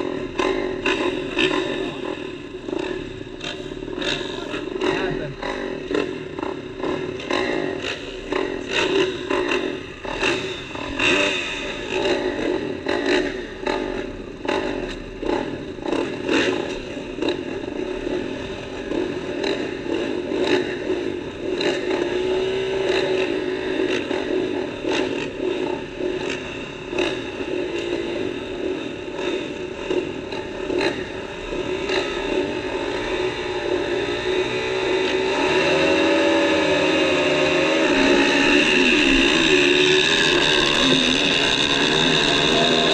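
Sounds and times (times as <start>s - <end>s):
motocross bikes revving: 0.0s - 42.9s.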